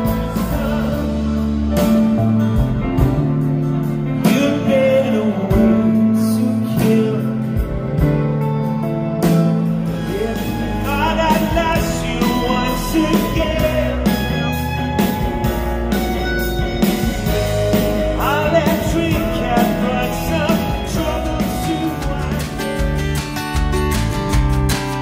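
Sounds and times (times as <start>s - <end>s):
steady drum beat: 0.0s - 4.9s, 6.8s - 25.0s
man singing: 0.0s - 8.2s, 9.8s - 16.4s, 17.1s - 23.2s
bass: 0.0s - 25.0s
guitar: 0.0s - 25.0s.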